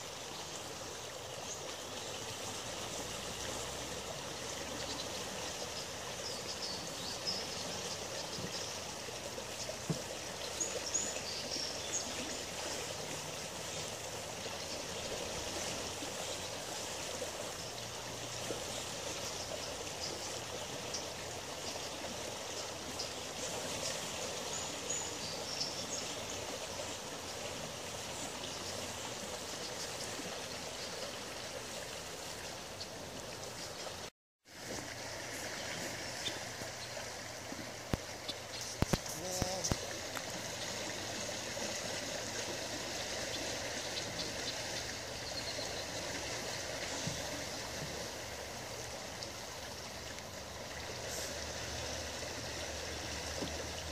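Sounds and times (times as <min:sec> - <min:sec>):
river water running over stones: 0:00.0 - 0:53.9.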